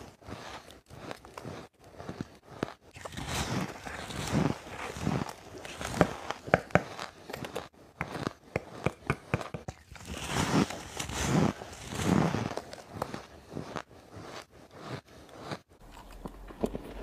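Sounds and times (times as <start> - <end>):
chewing crunchy ice: 0.0 - 17.0.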